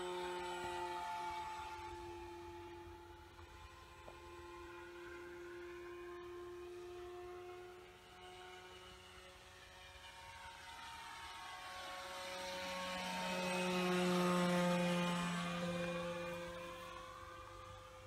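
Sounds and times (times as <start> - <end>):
model plane motor whine: 0.0 - 18.0.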